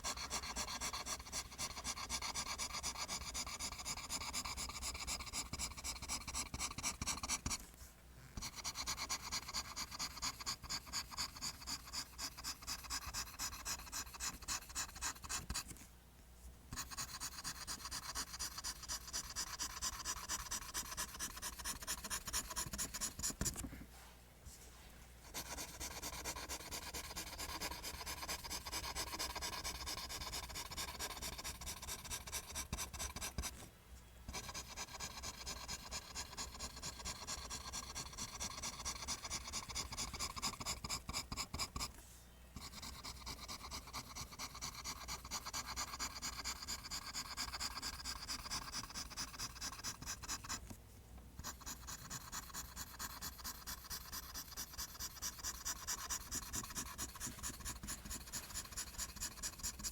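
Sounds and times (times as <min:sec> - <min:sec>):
pencil scratching on paper: 0:00.0 - 0:07.6, 0:08.4 - 0:15.8, 0:16.7 - 0:23.7, 0:25.2 - 0:33.7, 0:34.3 - 0:41.9, 0:42.6 - 0:50.7, 0:51.4 - 0:59.9.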